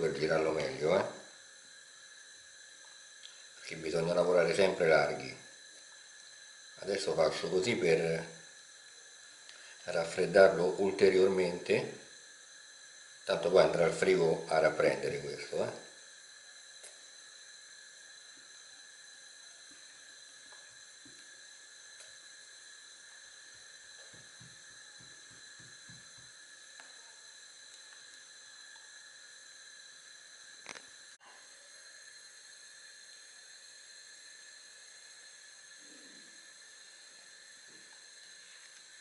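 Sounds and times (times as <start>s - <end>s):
faint steady hiss: 0.0s - 39.0s
thin high whine: 0.0s - 39.0s.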